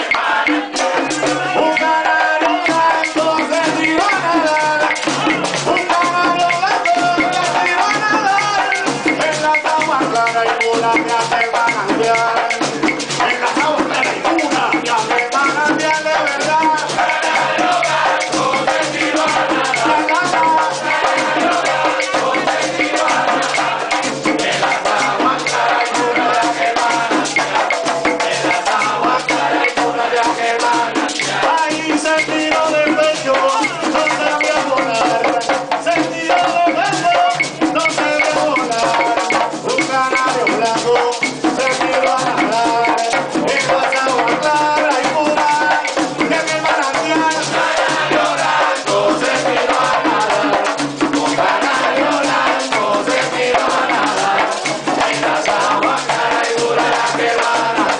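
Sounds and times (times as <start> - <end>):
frame drums beating: 0.0 - 57.9
group of voices singing: 0.0 - 57.9
lead singer: 0.0 - 57.9.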